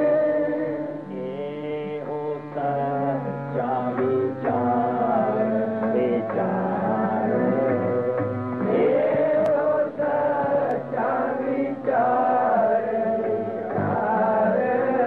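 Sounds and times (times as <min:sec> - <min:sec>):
voices singing devotional chant: 0:00.0 - 0:15.0.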